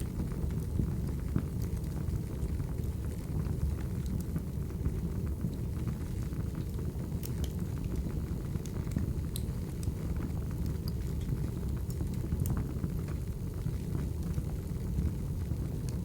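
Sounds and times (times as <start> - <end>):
fire crackling and popping: 0.0 - 16.0
low rumble of burning logs: 0.0 - 16.0.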